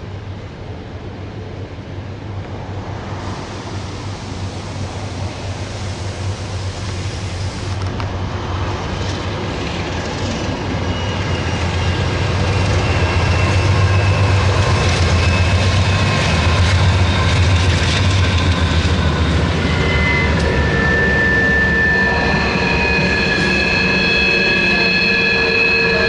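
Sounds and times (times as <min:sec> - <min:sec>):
diesel locomotives rumbling past: 0:00.0 - 0:26.0
high steady squeal: 0:03.3 - 0:26.0.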